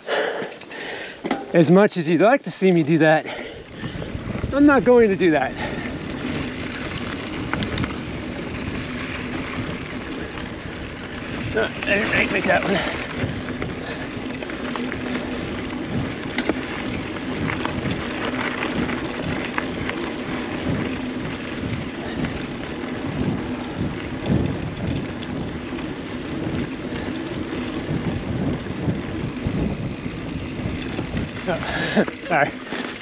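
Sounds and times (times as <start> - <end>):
bike clicks and rattles: 0.0 - 33.0
bike tyre noise on dirt: 0.0 - 33.0
wind rushing over microphone: 3.6 - 33.0.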